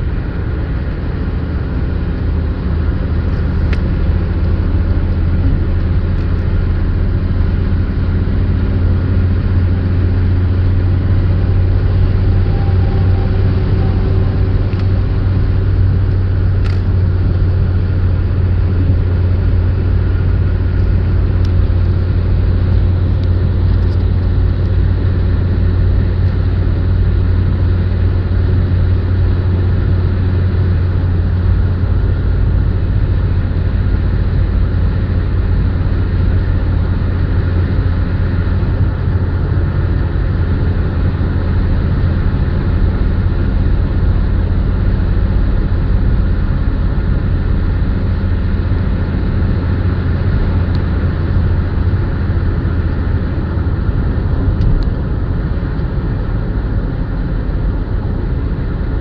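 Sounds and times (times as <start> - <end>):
car engine and tyre drone: 0.0 - 59.0.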